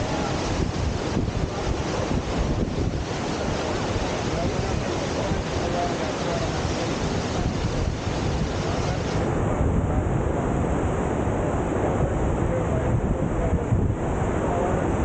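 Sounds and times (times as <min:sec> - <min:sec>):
rushing whitewater: 0:00.0 - 0:15.0
wind buffeting microphone: 0:00.0 - 0:15.0.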